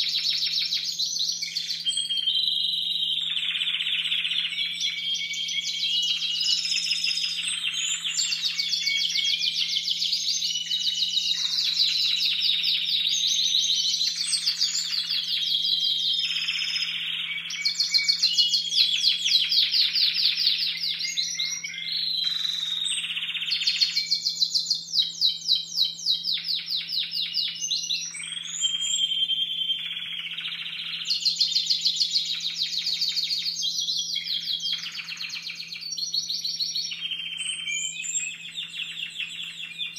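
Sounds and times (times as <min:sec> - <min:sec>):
canaries trilling: 0:00.0 - 0:39.9.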